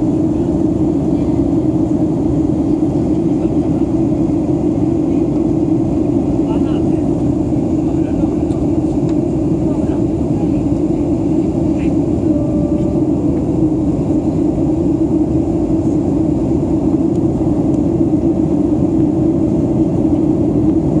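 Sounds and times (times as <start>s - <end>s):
airplane cabin engine rush: 0.0s - 21.0s.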